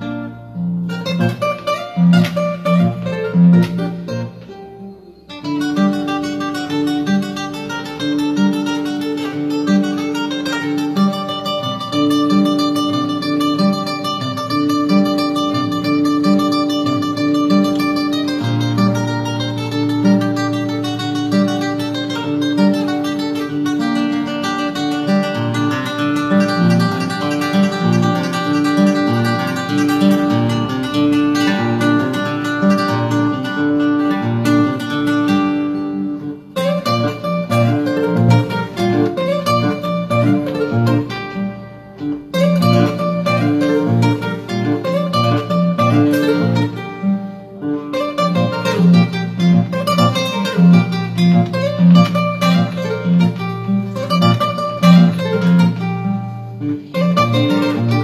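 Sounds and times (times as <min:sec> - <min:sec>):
classical guitar playing: 0:00.0 - 0:58.0.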